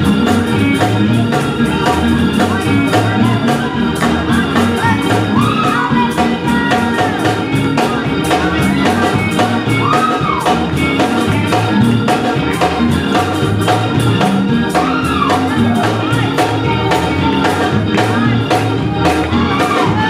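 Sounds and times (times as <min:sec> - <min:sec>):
drums keeping steady beat: 0:00.0 - 0:20.0
organ: 0:00.0 - 0:20.0
people singing: 0:00.0 - 0:20.0.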